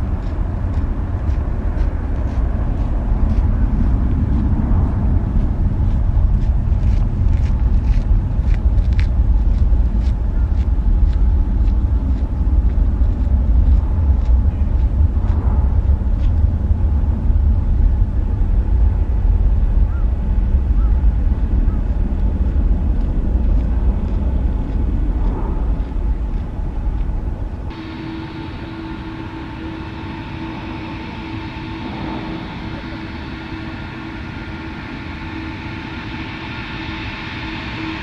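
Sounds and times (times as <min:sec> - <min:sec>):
jet engines rumbling overhead: 0:00.0 - 0:38.0.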